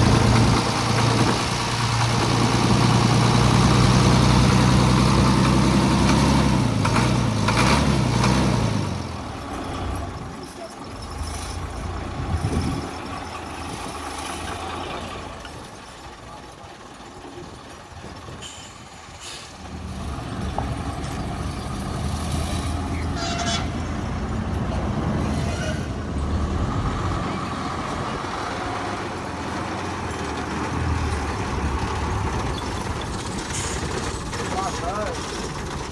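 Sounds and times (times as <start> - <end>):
truck diesel engine running: 0.0 - 35.9.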